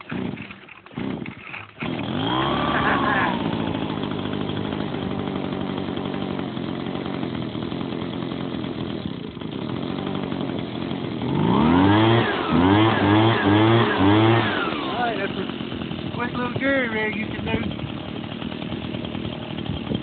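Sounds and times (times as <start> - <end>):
leaf blower engine idling and revving: 0.0 - 20.0.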